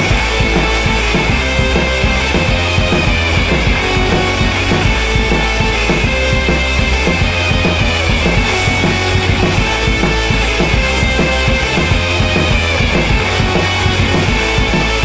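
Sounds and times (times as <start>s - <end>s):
rock music with drums: 0.0s - 15.0s.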